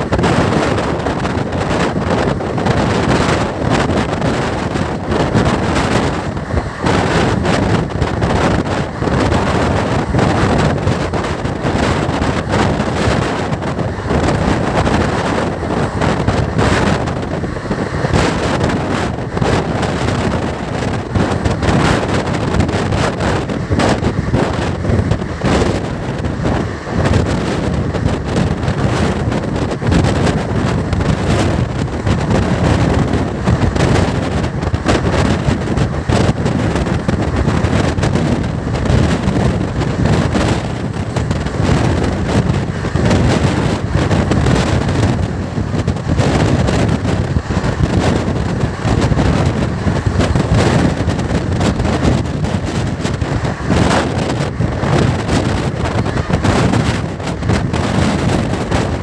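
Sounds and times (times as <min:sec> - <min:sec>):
train wheels clattering on rails: 0:00.0 - 0:59.0
wind buffeting microphone: 0:00.0 - 0:59.0.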